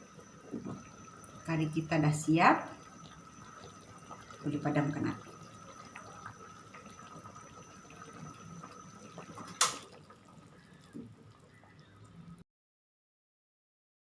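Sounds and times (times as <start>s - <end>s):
faint high whine: 0.0s - 12.4s.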